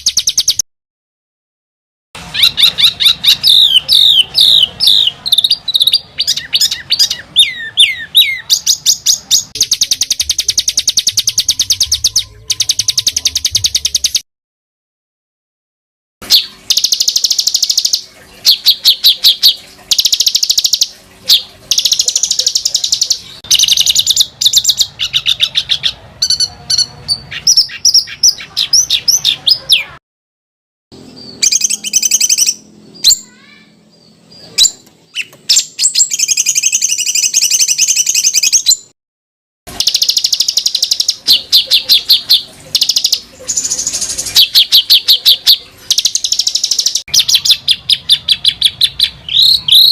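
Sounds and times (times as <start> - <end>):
songbird trills and chatter: 2.3 - 14.2, 16.3 - 30.0, 31.0 - 38.8, 39.7 - 49.9.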